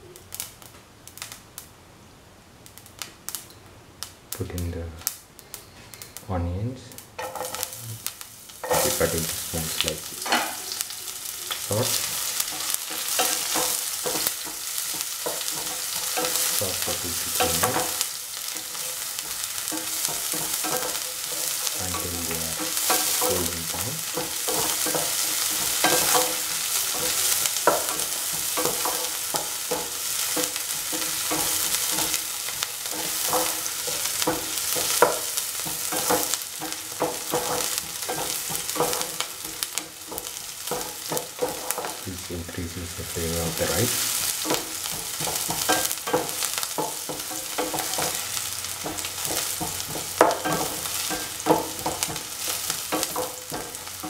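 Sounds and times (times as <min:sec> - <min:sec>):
onions sizzling in oil: 0:00.0 - 0:01.8, 0:02.6 - 0:54.0.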